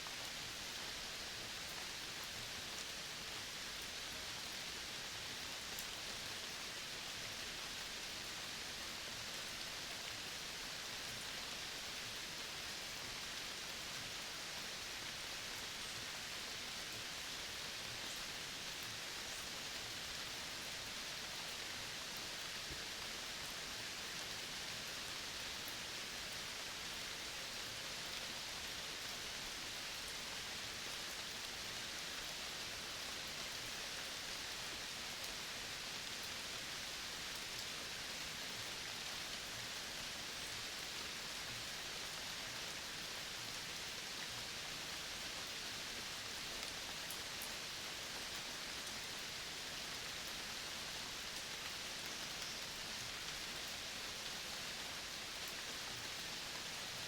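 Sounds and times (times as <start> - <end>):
steady outdoor nature ambience: 0.0 - 57.0.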